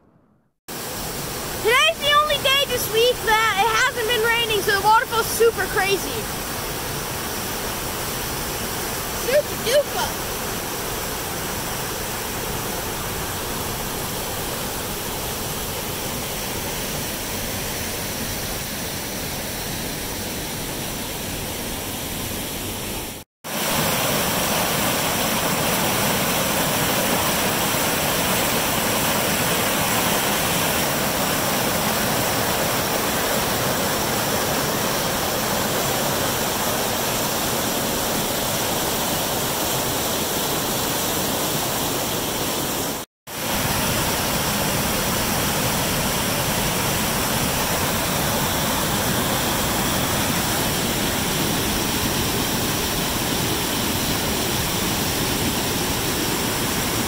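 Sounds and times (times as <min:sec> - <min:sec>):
waterfall rushing: 0:00.7 - 0:57.0.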